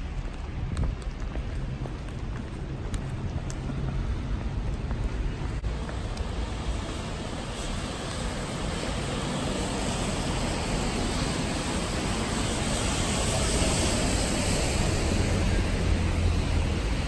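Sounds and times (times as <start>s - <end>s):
rain on a wet street: 0.0s - 17.0s.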